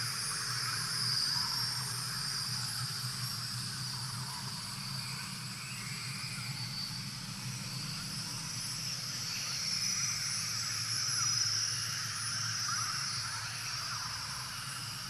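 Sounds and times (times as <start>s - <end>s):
high drone of insects: 0.0s - 15.0s.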